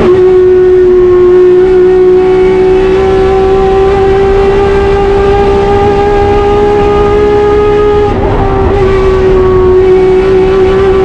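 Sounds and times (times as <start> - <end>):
race car engine revving high: 0.0 - 11.0.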